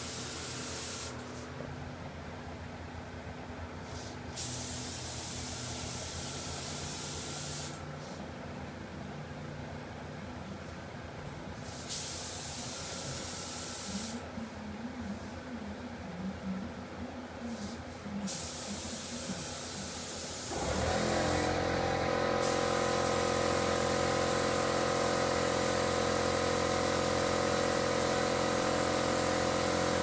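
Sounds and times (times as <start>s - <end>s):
paint pump and compressor hum: 0.0s - 15.6s, 16.3s - 30.0s.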